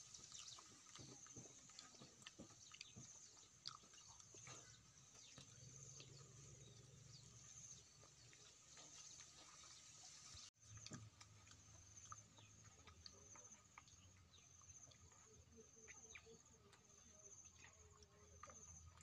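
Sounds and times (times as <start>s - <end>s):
small chirps and clicks: 0.0s - 19.0s.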